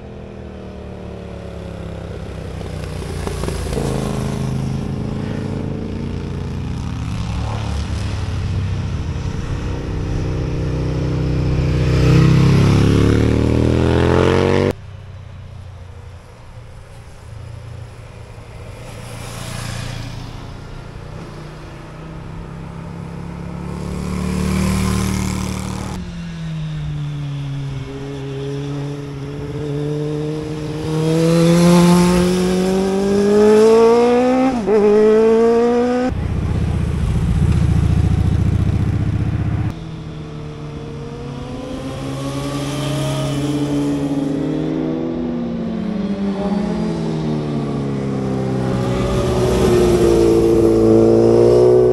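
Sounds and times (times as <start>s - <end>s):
motorcycle engines accelerating: 0.0s - 14.8s, 16.9s - 51.9s.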